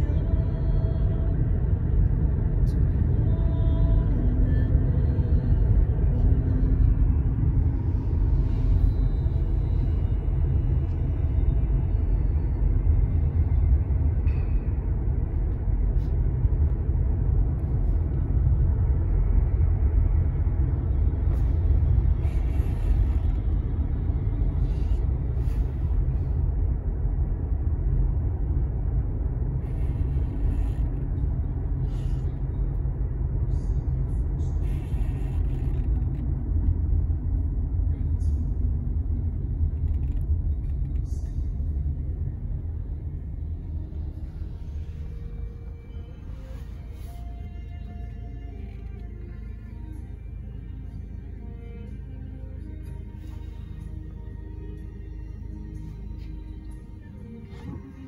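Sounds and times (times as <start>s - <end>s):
car cabin road and engine rumble: 0.0s - 58.0s.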